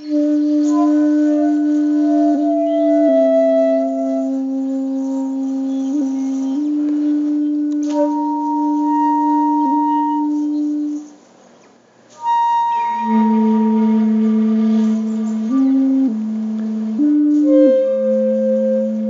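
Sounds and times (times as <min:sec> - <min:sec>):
slow instrumental music: 0:00.0 - 0:11.2, 0:12.0 - 0:19.0.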